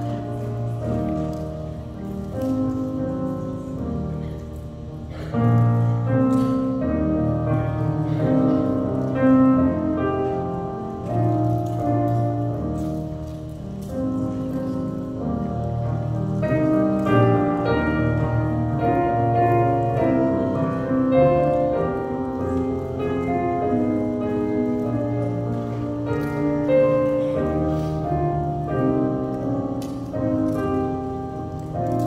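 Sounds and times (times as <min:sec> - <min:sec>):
electric keyboard piano music: 0:00.0 - 0:32.0.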